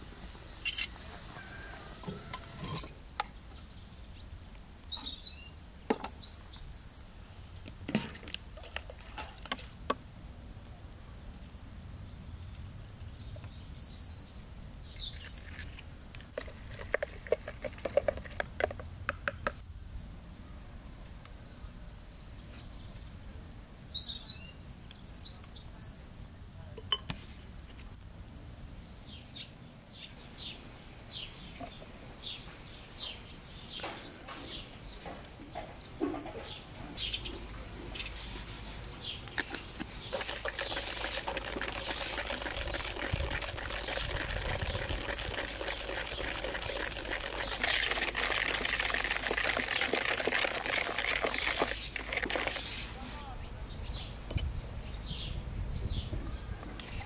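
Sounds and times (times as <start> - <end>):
small birds chirping: 0.5 - 7.5, 10.6 - 15.7, 16.4 - 20.2, 20.9 - 26.2, 28.3 - 57.0.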